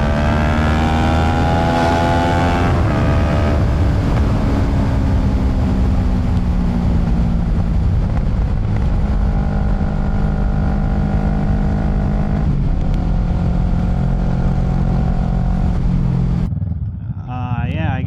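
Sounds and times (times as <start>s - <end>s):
wind and road rush: 0.0s - 17.1s
motorcycle engine running: 0.0s - 18.0s.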